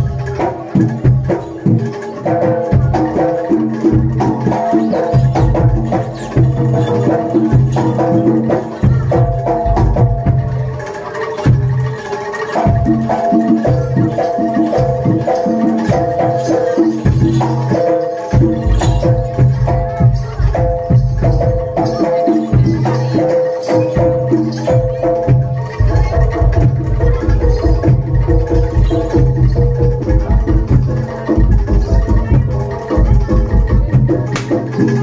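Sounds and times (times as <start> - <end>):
pitched metal percussion melody: 0.0 - 35.0
deep drum beats: 2.7 - 10.8, 12.6 - 35.0.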